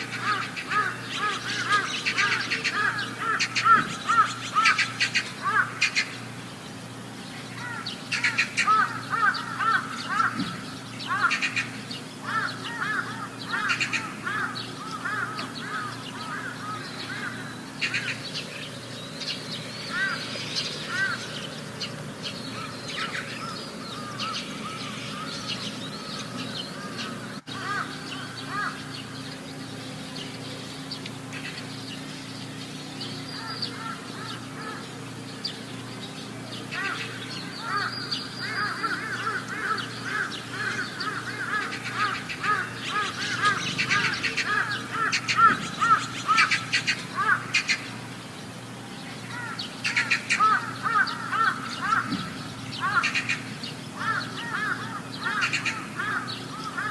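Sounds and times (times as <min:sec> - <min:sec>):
birds chirping: 0:00.0 - 0:56.9
steady low hum: 0:00.0 - 0:56.9.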